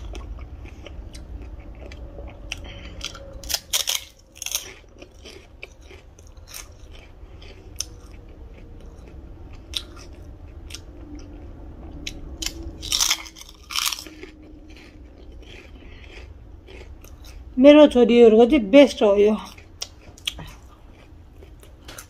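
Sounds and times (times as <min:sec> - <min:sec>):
person crunching fried snacks: 0:00.0 - 0:17.6, 0:19.5 - 0:22.0.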